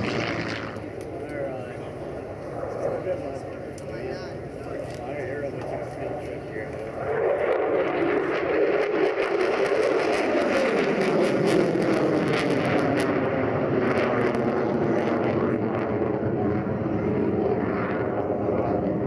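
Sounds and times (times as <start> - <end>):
jet engine rumble with crackling: 0.0 - 19.0.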